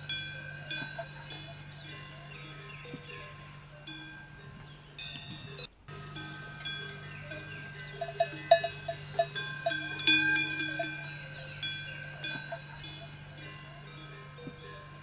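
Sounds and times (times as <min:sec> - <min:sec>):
bells ringing: 0:00.0 - 0:15.0
steady low hum: 0:00.0 - 0:15.0.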